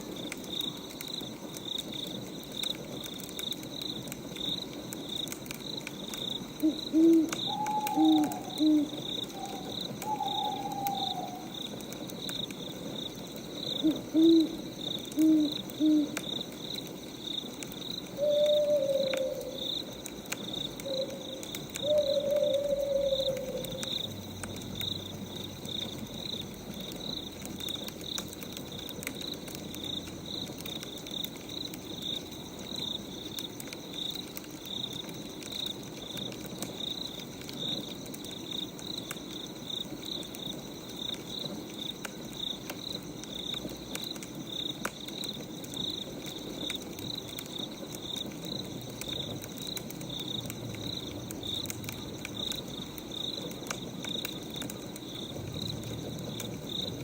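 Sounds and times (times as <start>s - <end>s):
crackling wood fire: 0.0s - 57.0s.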